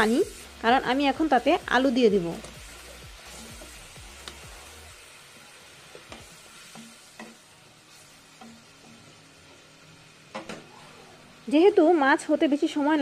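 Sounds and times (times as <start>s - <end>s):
gravy simmering and sizzling: 0.0s - 13.0s.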